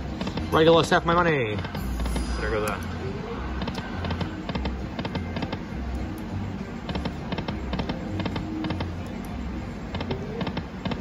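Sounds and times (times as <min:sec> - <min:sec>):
electronic slot machine music: 0:00.0 - 0:11.0.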